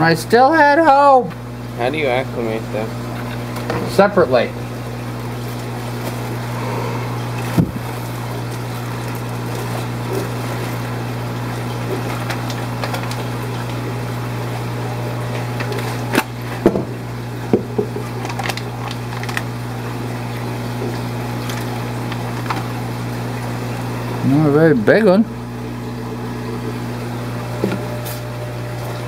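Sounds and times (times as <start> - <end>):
mechanical hum of equipment: 0.0 - 29.0.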